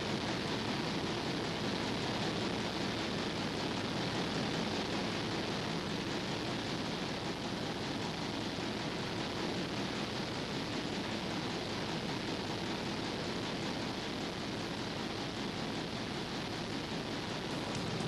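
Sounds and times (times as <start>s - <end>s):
steady hiss: 0.1s - 18.0s.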